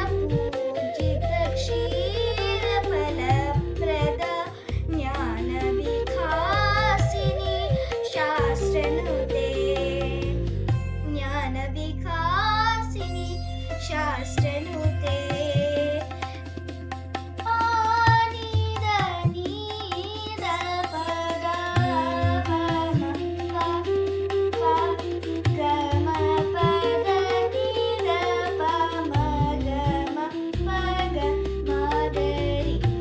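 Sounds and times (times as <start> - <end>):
hand drum percussion: 0.0 - 11.0, 14.4 - 33.0
girl singing: 0.0 - 16.4, 17.4 - 33.0.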